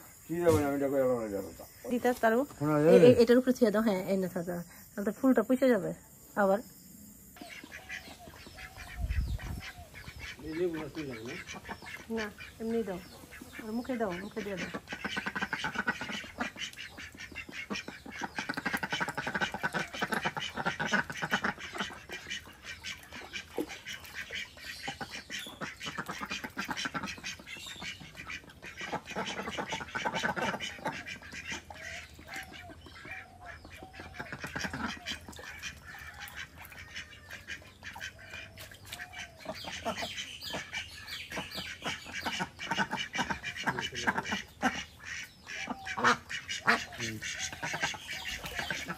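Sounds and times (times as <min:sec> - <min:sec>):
ducks quacking: 0:00.0 - 0:04.1, 0:07.4 - 0:48.9
ducks splashing in water: 0:07.4 - 0:48.9.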